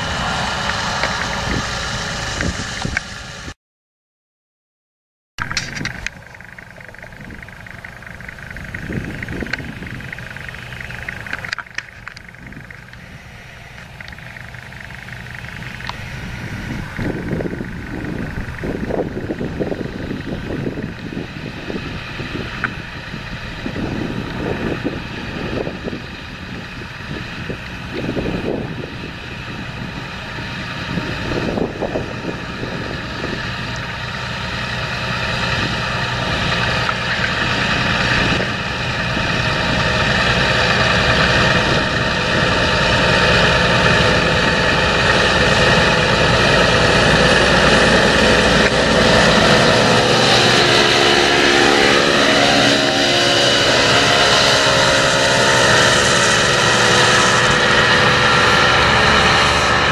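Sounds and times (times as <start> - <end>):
tractor diesel engine under load: 0.0 - 3.6, 5.4 - 59.9.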